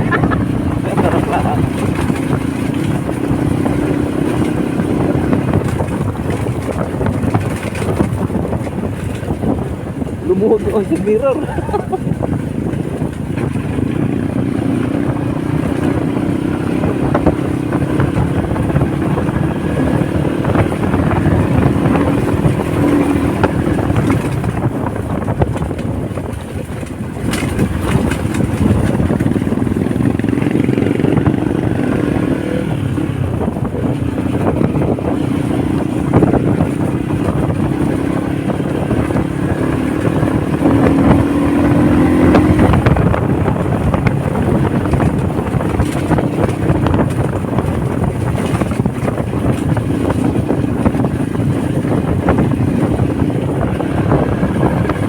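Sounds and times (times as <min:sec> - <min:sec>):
motorcycle engine running: 0:00.0 - 0:55.0
road and wind rumble: 0:00.0 - 0:55.0.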